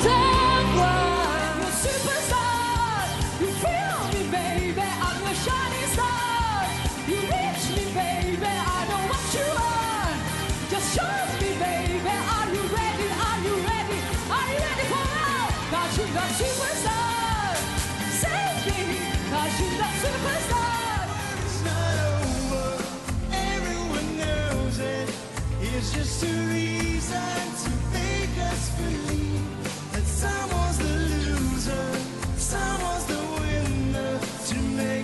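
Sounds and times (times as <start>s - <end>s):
fast driving drum beat: 0.0s - 35.0s
woman singing dance-pop song: 0.0s - 35.0s.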